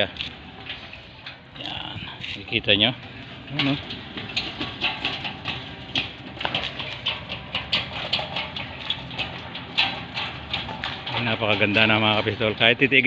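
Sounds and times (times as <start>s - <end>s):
metal gate rattling on rollers: 0.0s - 13.0s.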